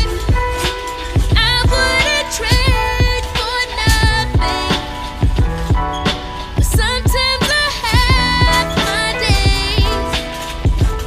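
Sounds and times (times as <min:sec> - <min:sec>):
r and b song with singing: 0:00.0 - 0:11.0.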